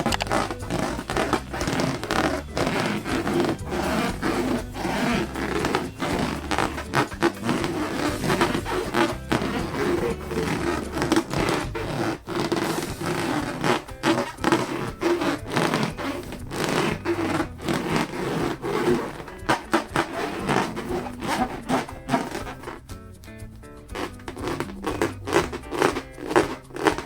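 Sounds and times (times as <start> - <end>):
balloons squeaking and crackling: 0.0 - 27.0.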